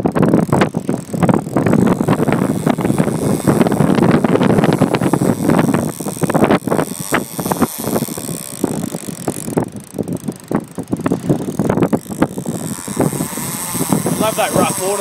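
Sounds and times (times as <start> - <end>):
fishing reel clicking: 0.0 - 15.0
water against hull: 0.0 - 15.0
wind on microphone: 0.0 - 15.0.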